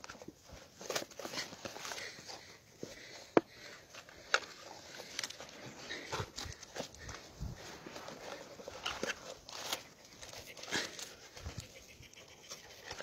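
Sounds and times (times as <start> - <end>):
cardboard carton rustling and crackling: 0.0 - 3.1, 3.9 - 11.8.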